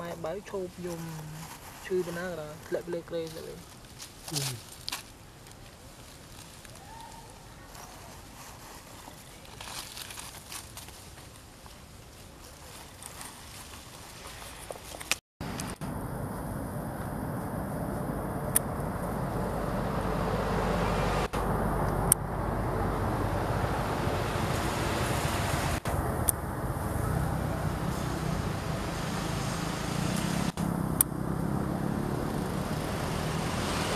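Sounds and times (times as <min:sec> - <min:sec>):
low rumbling background noise: 0:00.0 - 0:33.9.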